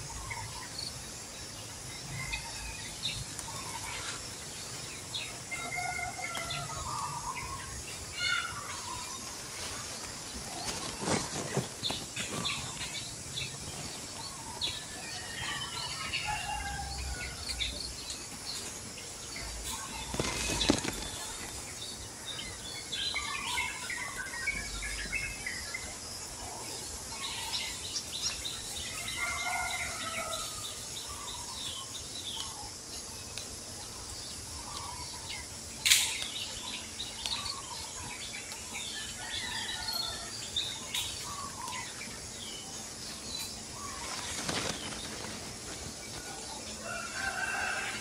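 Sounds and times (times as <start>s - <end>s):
small birds chirping: 0.0s - 47.8s
steady background hiss: 0.0s - 48.0s.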